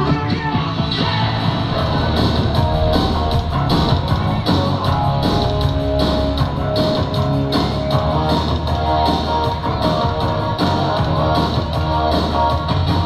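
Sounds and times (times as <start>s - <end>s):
rock music with guitar and drums: 0.0s - 13.0s.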